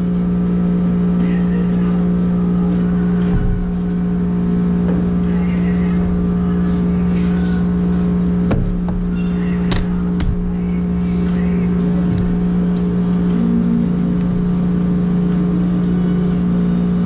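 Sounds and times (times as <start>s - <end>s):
router motor humming: 1.8s - 17.0s.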